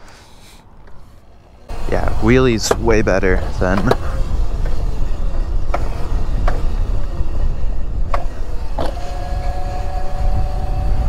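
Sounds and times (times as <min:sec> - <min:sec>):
electric motor whine: 0:00.0 - 0:11.0
wind rumbling on microphone: 0:00.0 - 0:11.0.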